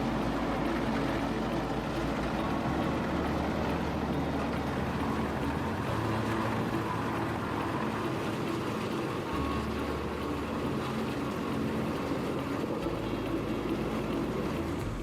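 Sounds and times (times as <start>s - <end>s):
wood-processing machine drone: 0.0s - 15.0s.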